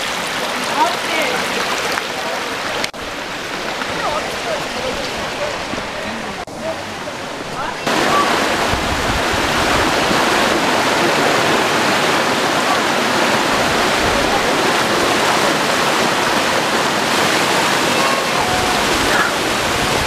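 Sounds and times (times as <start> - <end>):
creek cascading over rocks: 0.0 - 20.0.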